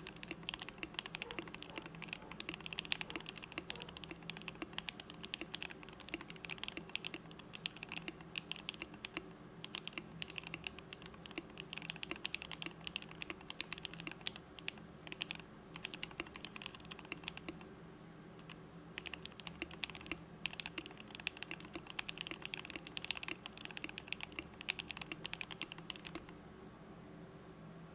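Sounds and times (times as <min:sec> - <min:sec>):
mechanical keyboard typing: 0:00.0 - 0:17.6, 0:18.4 - 0:26.3.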